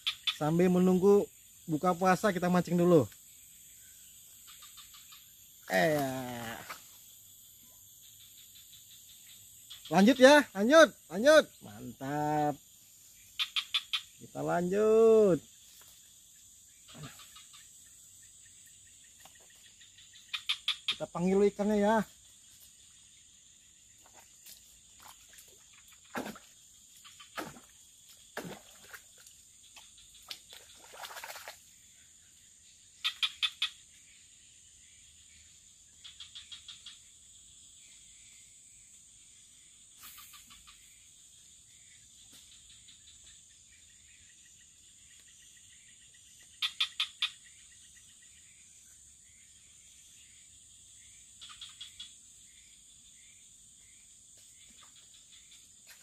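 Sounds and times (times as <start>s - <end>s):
high-pitched insect drone: 0.0s - 56.0s
rapid pulsed animal calls: 0.0s - 56.0s.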